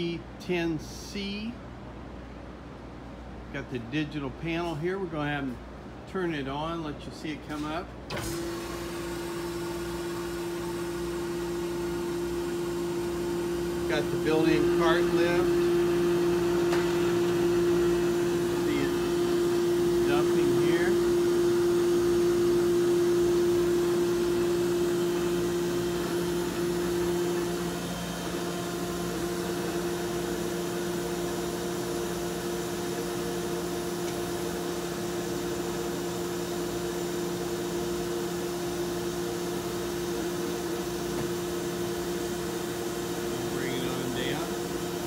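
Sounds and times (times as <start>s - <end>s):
machine hum: 8.0s - 45.0s
machine whine: 8.1s - 45.0s.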